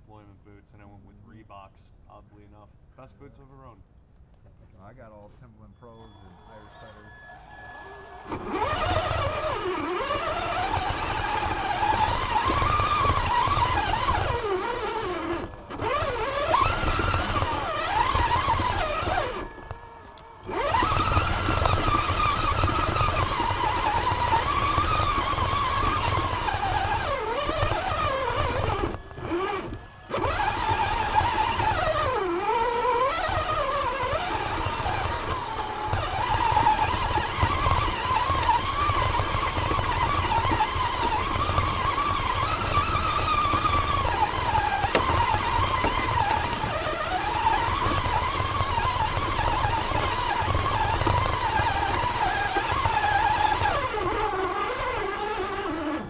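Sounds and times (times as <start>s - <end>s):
electric motor whining: 6.1s - 56.0s
driving over dead leaves: 7.5s - 56.0s.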